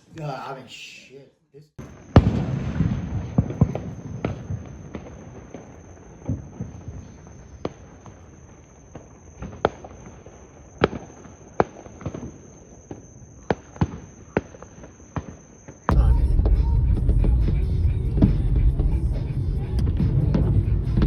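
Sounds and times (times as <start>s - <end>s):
distant fireworks popping: 1.8s - 21.0s.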